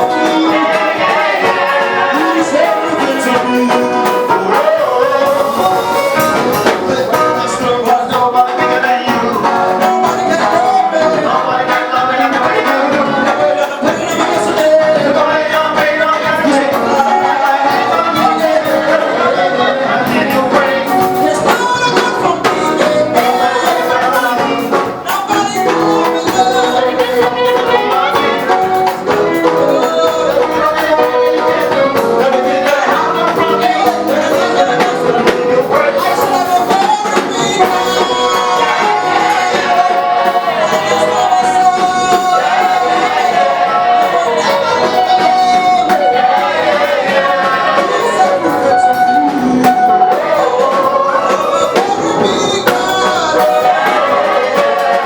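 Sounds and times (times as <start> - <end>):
gospel singers with band: 0.0 - 55.0.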